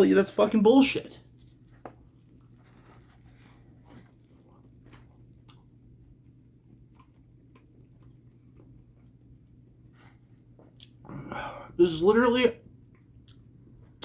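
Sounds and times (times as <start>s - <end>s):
low steady hum: 0.0s - 14.0s
faint chewing: 1.1s - 11.2s, 12.8s - 14.0s.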